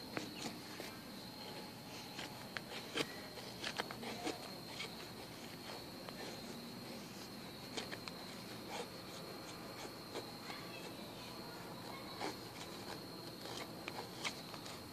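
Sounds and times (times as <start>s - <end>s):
high insect trill: 0.0s - 14.9s
knife shaving wooden stick: 0.0s - 14.9s.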